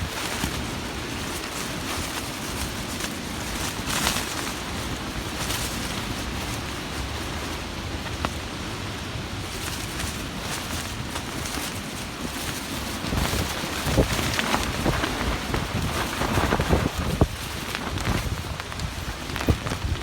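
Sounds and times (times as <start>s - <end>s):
steady rain falling: 0.0s - 20.0s
wind rumbling on microphone: 0.0s - 20.0s.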